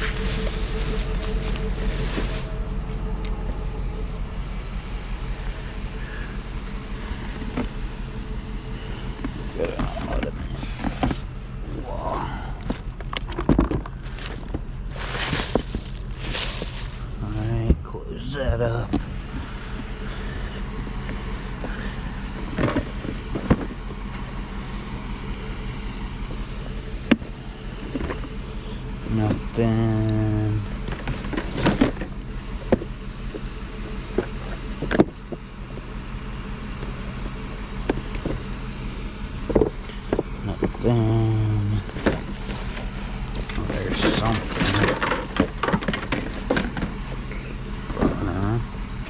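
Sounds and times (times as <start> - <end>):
vehicle engine and road rumble: 0.0 - 49.0.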